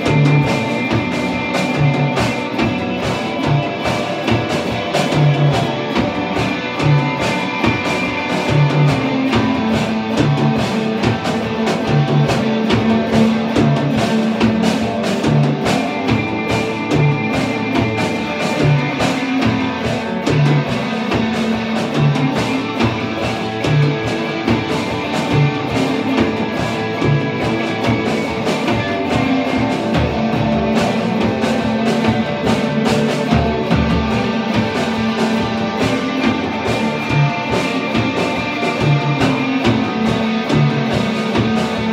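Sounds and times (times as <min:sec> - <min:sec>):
drums steady beat: 0:00.0 - 0:41.9
electric guitars: 0:00.0 - 0:41.9.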